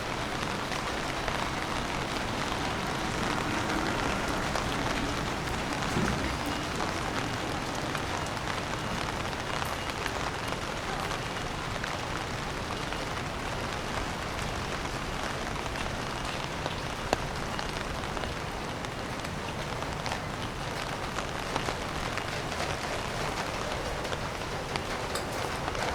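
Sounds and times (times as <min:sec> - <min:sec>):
raindrop ticks: 0:00.0 - 0:25.9
steady rain falling: 0:00.0 - 0:25.9.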